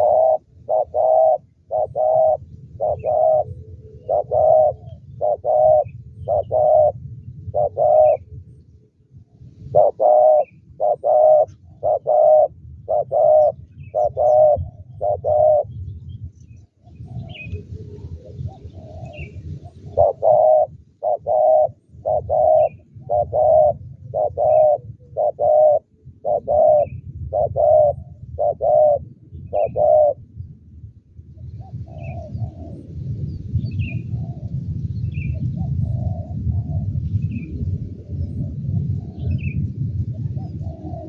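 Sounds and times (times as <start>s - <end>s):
doves cooing: 0.0s - 8.6s, 9.6s - 15.8s, 16.8s - 30.3s, 31.5s - 33.2s, 33.8s - 41.0s.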